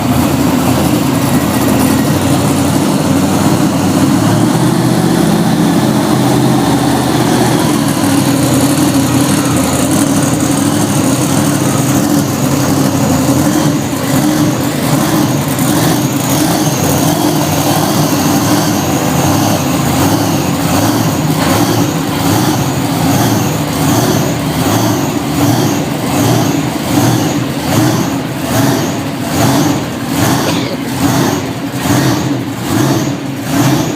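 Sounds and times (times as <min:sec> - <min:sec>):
large truck engine running: 0:00.0 - 0:33.9.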